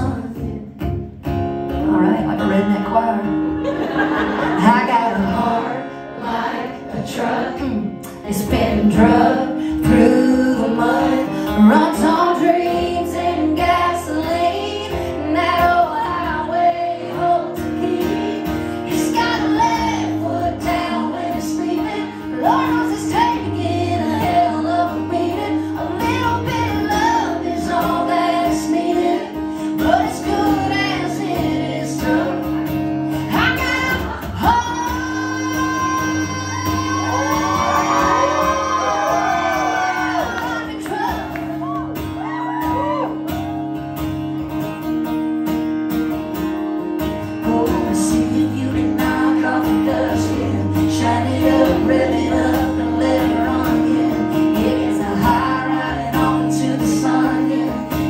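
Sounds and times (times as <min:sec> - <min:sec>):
woman singing country song: 0:00.0 - 0:58.0.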